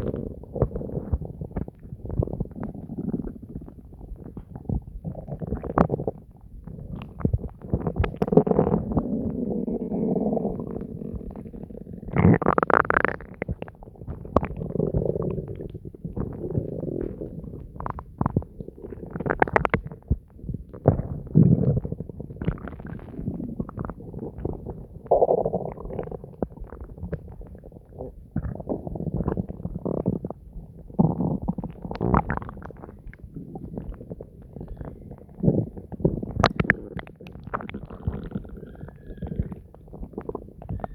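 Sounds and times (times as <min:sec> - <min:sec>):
stomach gurgling and rumbling: 0:00.0 - 0:40.9.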